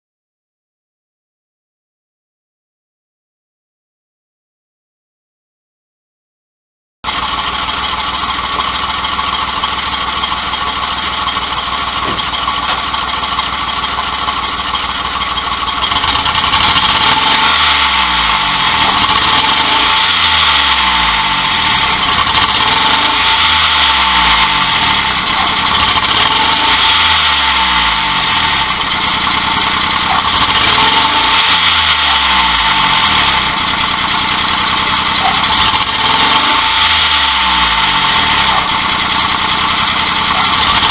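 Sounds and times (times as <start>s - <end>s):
engine running with whine: 7.0s - 40.9s.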